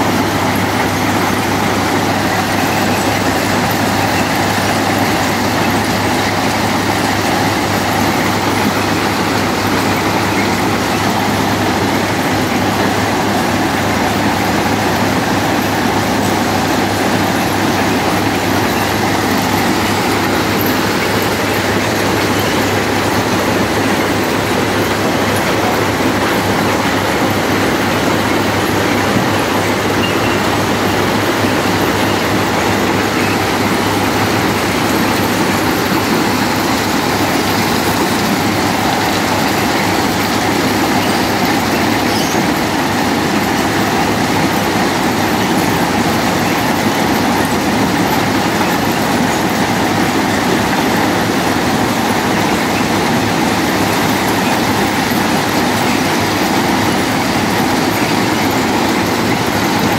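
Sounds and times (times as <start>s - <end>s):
machine engine and conveyors running: 0.0s - 59.9s
stones pouring off conveyor: 0.0s - 59.9s.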